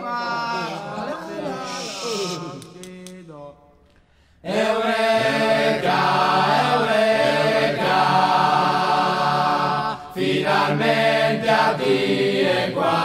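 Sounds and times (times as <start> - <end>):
choir singing held notes: 0.0 - 3.0, 4.4 - 13.0.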